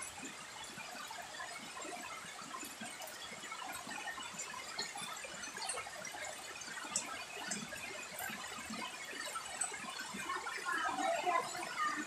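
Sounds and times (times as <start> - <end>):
steady rain falling: 0.0 - 12.0
water dripping: 0.0 - 12.0.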